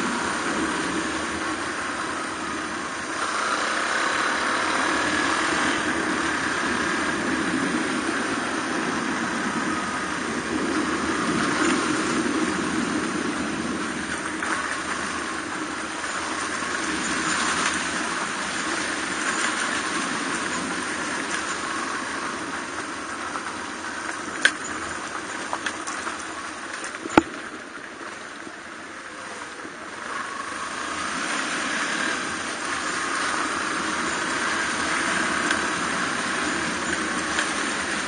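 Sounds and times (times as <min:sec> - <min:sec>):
motorcycle engine running: 0:00.0 - 0:38.0
rushing noise: 0:00.0 - 0:38.0.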